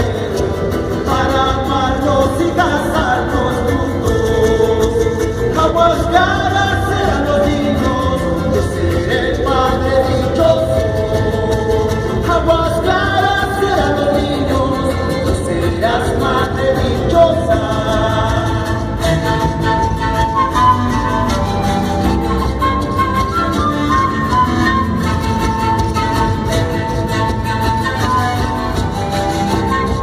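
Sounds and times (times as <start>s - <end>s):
folk band playing: 0.0s - 30.0s
voices singing: 0.0s - 30.0s.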